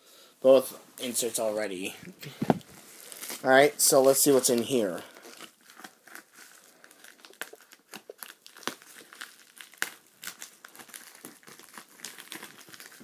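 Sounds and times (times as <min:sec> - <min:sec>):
packaging crinkling and rustling: 0:02.3 - 0:13.0.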